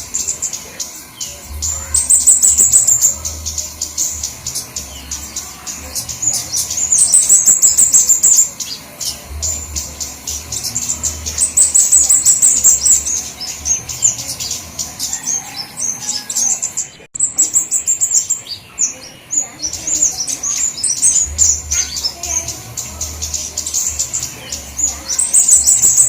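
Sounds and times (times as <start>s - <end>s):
small birds chipping and twittering: 0.0s - 26.0s.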